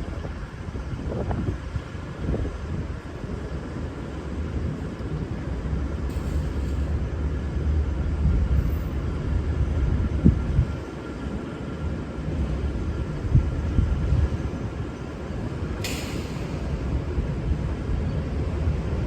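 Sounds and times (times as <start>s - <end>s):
diesel train rumbling: 0.0s - 19.0s.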